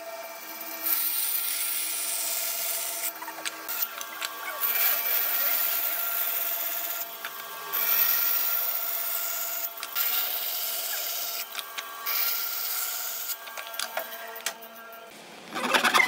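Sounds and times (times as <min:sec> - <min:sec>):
band saw cutting wood: 0:00.0 - 0:16.0.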